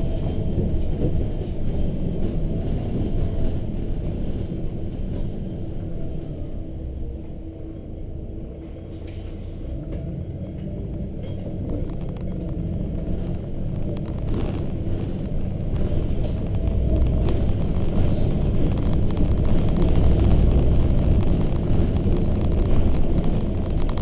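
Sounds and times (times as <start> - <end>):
bus diesel engine rumble: 0.0 - 24.0.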